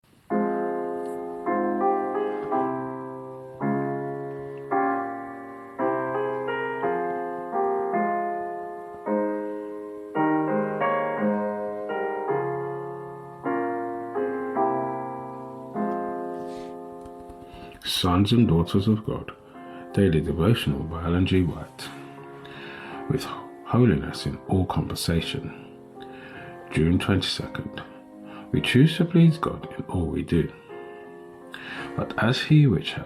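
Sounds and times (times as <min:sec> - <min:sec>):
piano playing slow chords: 0:00.1 - 0:33.0.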